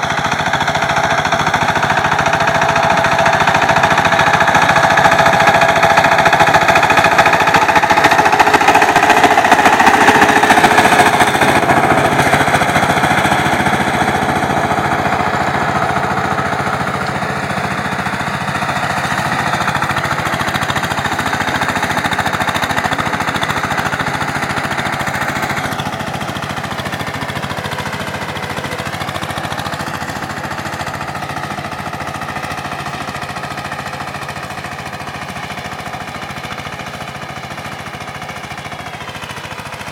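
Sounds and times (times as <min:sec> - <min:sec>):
power tiller engine knocking: 0:00.0 - 0:39.9.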